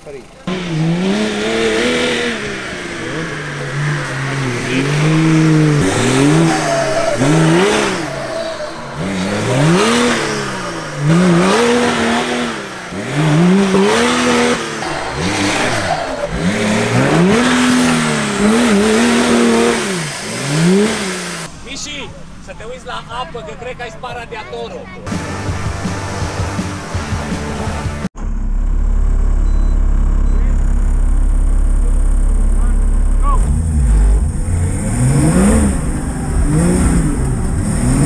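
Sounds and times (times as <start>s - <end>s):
off-road engine revving: 0.0s - 38.0s.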